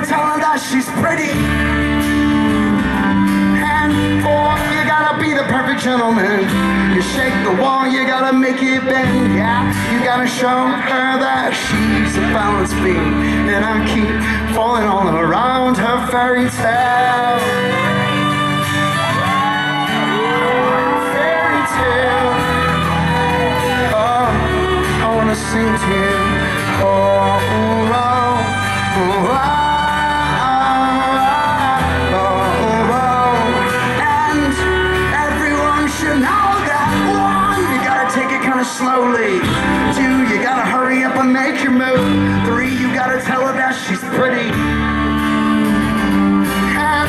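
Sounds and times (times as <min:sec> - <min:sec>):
acoustic guitar: 0:00.0 - 0:47.0
man singing into microphone: 0:00.0 - 0:47.0.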